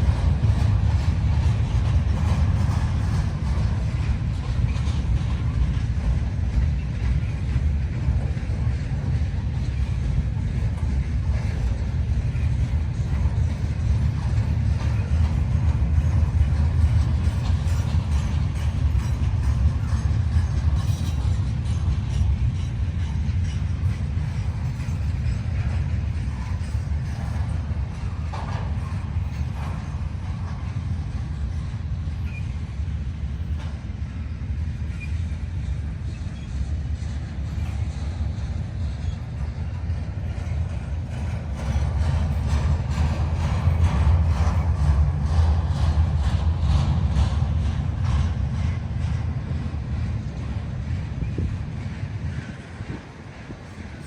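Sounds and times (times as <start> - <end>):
clicks and rattles of train cars: 0.0 - 54.0
train cars rumbling on rails: 0.0 - 54.0.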